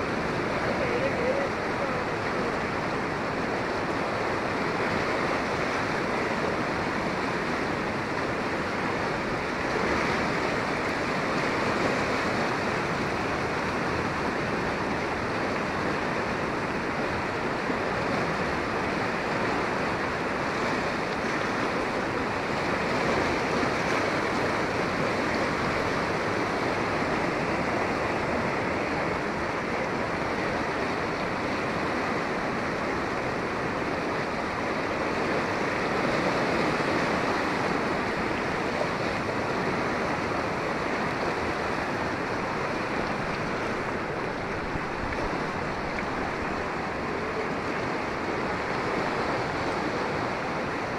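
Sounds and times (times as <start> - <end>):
floodwater rushing: 0.0 - 50.9.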